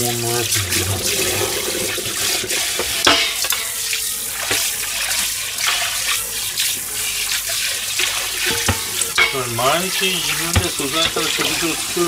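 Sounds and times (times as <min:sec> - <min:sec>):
tap water splashing into a pan: 0:00.0 - 0:12.0.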